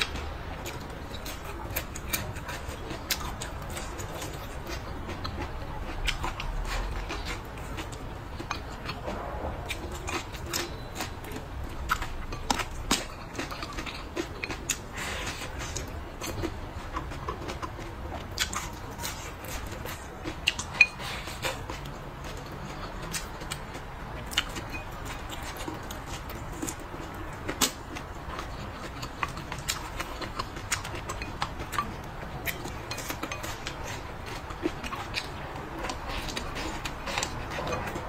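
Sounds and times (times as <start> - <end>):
chewing and lip smacks: 0.0 - 38.0.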